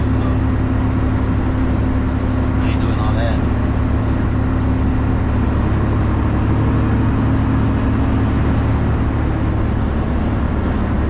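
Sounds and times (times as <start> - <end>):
diesel truck engine drone in cab: 0.0 - 11.0.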